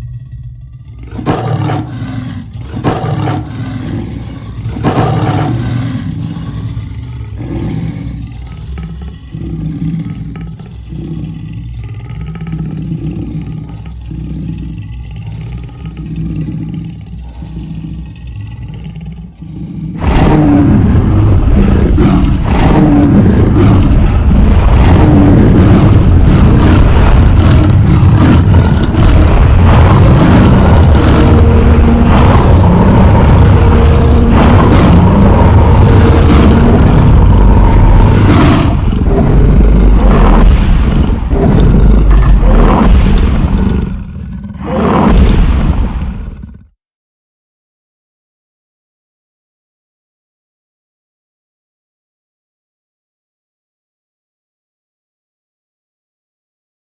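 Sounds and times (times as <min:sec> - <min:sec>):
monster growl and roar: 0:00.0 - 0:46.8.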